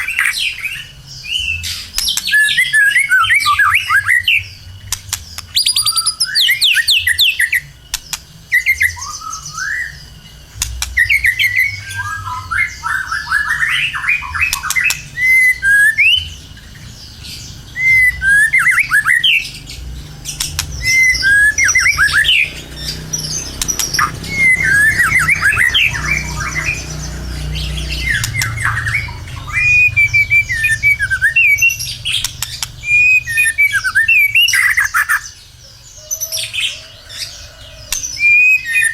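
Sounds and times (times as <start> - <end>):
steady low hum: 0.0 - 35.9
songbird whistling song: 0.0 - 38.9.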